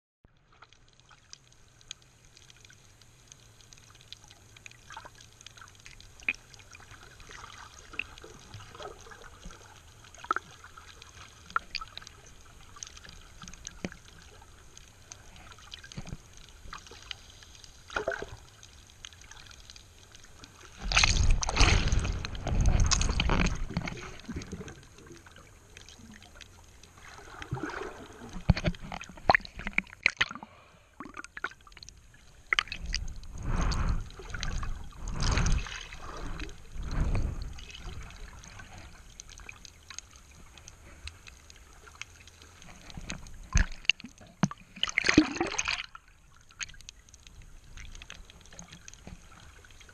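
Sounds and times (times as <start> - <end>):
sharp clicks and crackles: 0.5 - 30.4, 31.0 - 49.9
muffled underwater hiss: 0.6 - 49.9.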